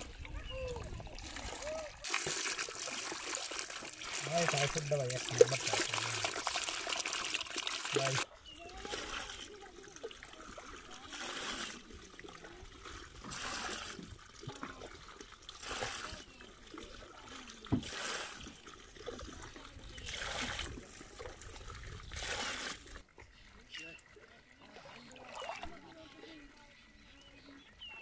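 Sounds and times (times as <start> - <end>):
water splashing onto mud: 0.0 - 24.0.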